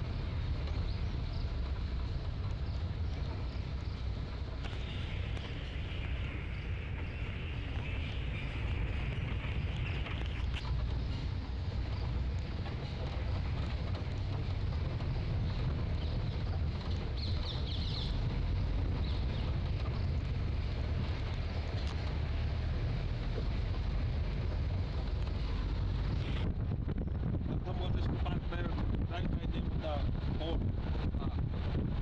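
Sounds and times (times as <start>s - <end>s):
vehicle engine and road rumble: 0.0s - 32.0s
wind buffeting microphone: 0.0s - 32.0s.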